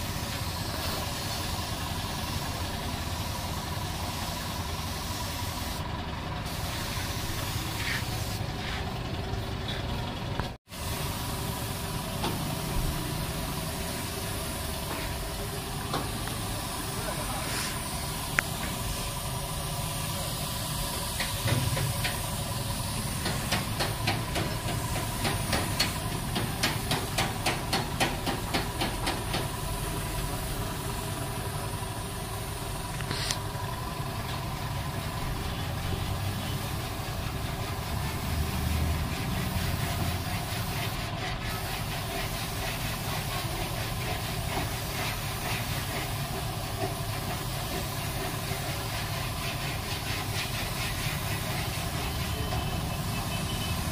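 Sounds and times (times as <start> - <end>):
spray gun air hiss: 0.0 - 9.0, 10.7 - 33.7, 34.6 - 53.9.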